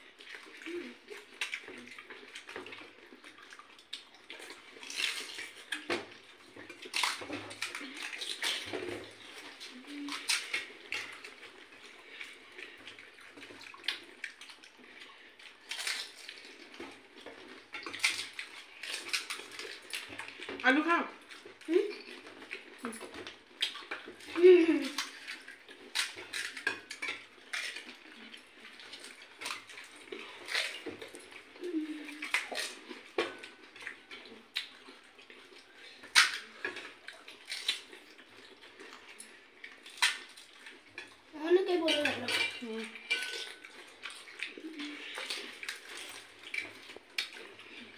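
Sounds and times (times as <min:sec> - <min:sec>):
wet crunches and slurps: 0:00.0 - 0:47.9.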